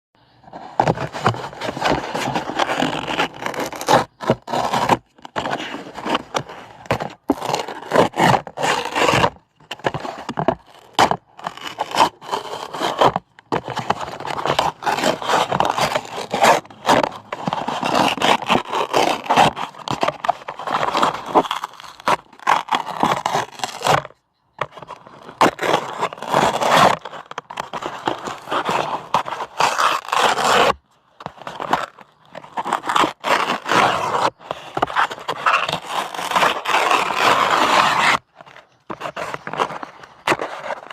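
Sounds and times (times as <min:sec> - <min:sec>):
paper tearing: 0:00.9 - 0:24.1, 0:24.7 - 0:30.8, 0:31.4 - 0:40.9.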